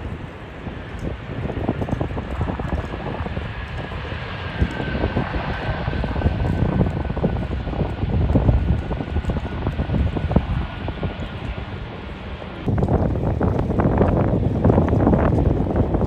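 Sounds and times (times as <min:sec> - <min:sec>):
jet engines whining: 0:00.0 - 0:16.0
wind buffeting microphone: 0:00.0 - 0:16.0.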